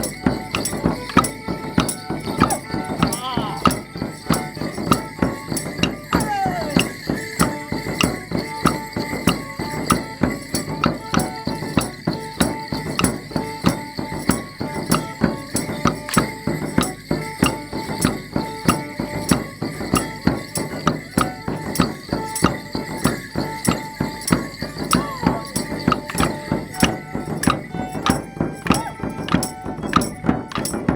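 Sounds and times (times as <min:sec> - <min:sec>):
sharp knocks from dancing: 0:00.0 - 0:16.9, 0:18.7 - 0:30.9
folk band playing dance tune: 0:00.0 - 0:30.9.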